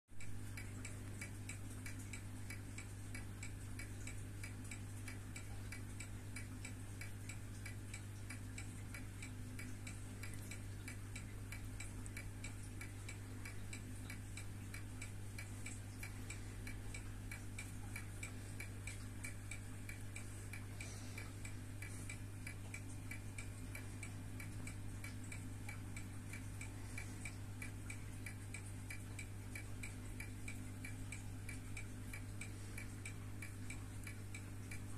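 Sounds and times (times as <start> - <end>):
steady low hum: 0.1 - 34.9
wristwatch ticking rapidly: 0.2 - 34.9.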